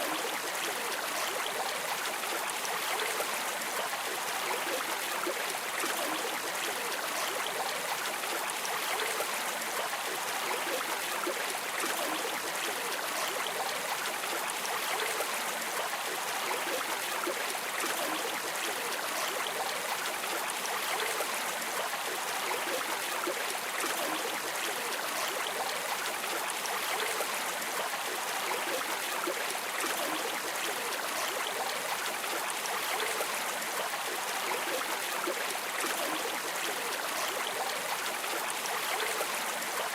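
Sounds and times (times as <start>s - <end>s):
river water streaming: 0.0s - 39.9s.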